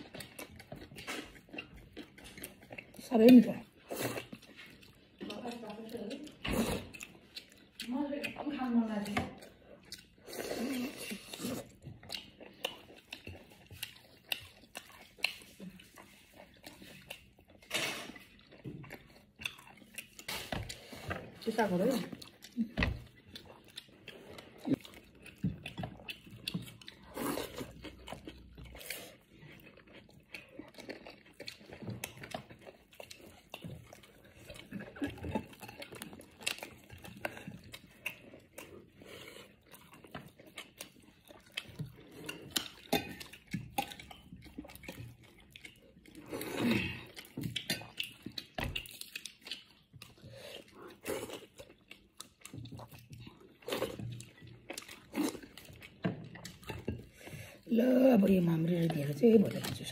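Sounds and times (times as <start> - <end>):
chewing and mouth noises: 0.0 - 59.9.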